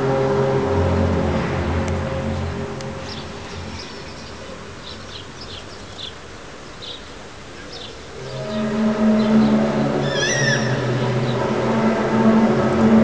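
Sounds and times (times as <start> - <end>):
low steady drone: 0.0 - 5.7, 7.3 - 13.0.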